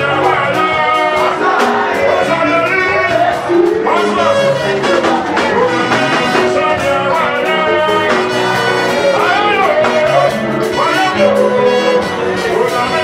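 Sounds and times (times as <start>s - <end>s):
band with beat and bass: 0.0s - 13.0s
person singing: 0.0s - 13.0s.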